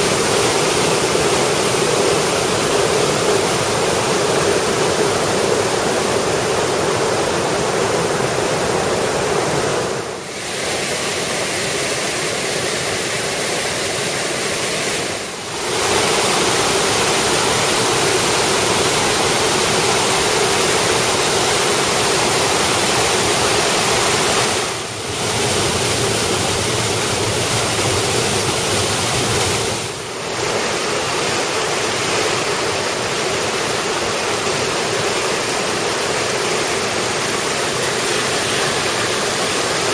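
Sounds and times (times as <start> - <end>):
whitewater rushing over rocks: 0.0 - 39.9.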